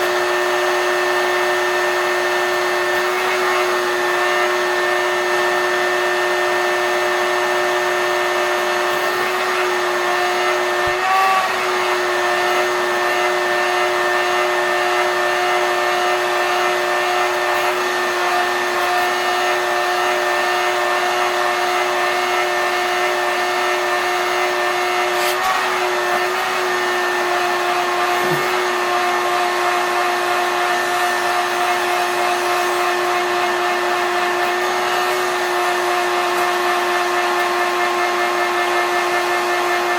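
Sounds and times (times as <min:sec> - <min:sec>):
shop vac running: 0:00.0 - 0:39.9.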